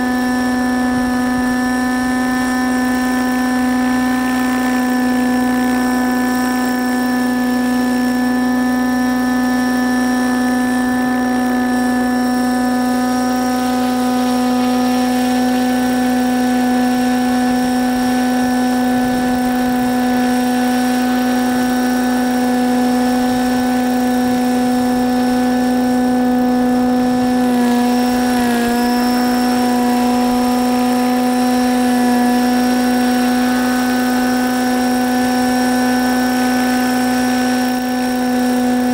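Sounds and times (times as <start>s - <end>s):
model helicopter hovering hum: 0.0s - 38.9s.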